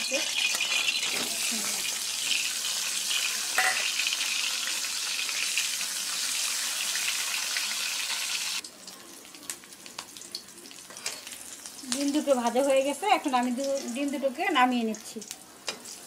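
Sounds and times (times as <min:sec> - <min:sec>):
eggs frying in hot oil: 0:00.0 - 0:16.0.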